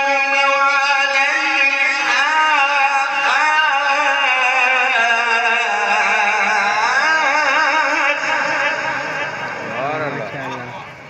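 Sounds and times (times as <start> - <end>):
man chanting melodic recitation: 0.0 - 10.6.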